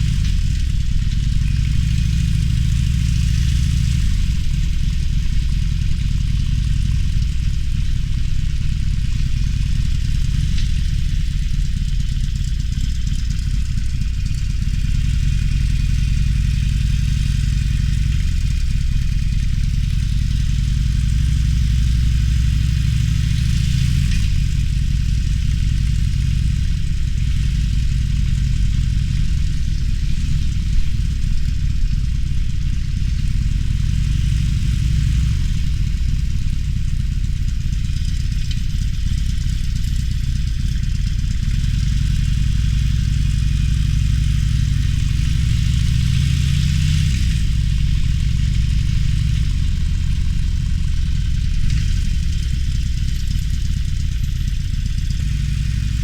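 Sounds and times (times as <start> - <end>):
motorcycle engine running at low revs: 0.0 - 56.0.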